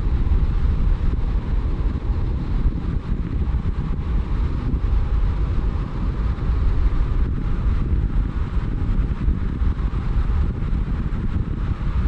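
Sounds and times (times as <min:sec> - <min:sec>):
road and wind noise rumble: 0:00.0 - 0:12.0.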